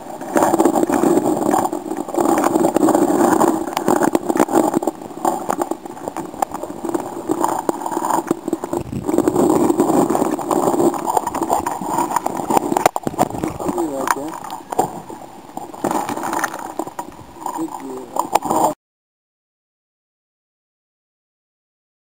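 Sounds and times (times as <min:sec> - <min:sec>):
muffled generator engine underwater: 0:00.0 - 0:18.8.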